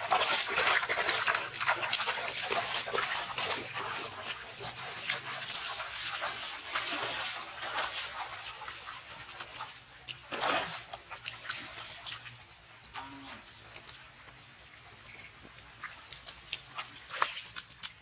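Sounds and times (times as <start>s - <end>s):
water splashing in a pool: 0.0s - 18.0s.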